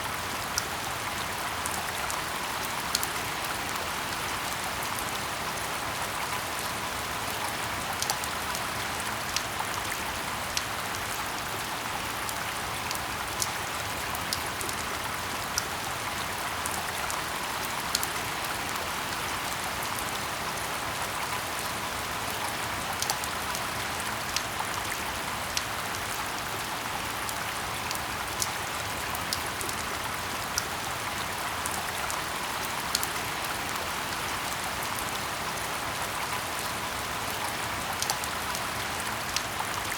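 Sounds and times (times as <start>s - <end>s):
rain hiss in forest: 0.0s - 39.9s.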